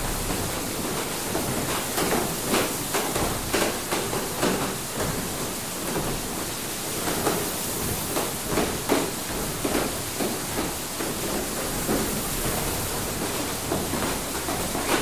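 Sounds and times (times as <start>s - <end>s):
mill machinery knocking: 0.0s - 15.0s
rushing water: 0.0s - 15.0s.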